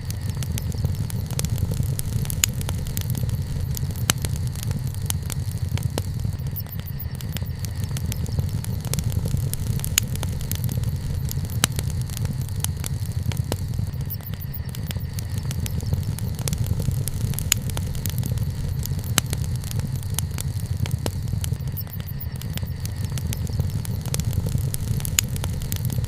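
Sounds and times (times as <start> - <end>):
low fire rumble: 0.0 - 26.0
wood fire crackling: 0.0 - 26.0.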